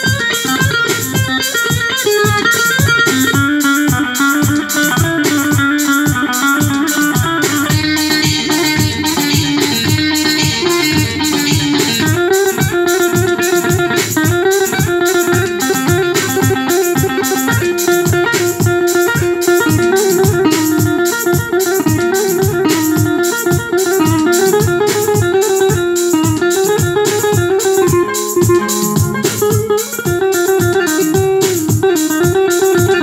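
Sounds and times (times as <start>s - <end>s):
keyboard plucked-string melody: 0.0s - 33.0s.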